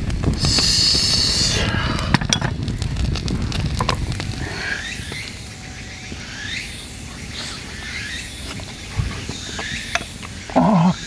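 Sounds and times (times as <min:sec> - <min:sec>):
campfire crackling and popping: 0:00.0 - 0:10.7.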